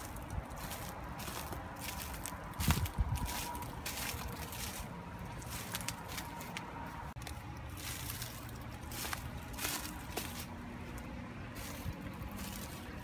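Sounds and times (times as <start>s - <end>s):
footsteps crunching on mulch: 0.0s - 13.0s
low background rumble: 0.0s - 13.0s.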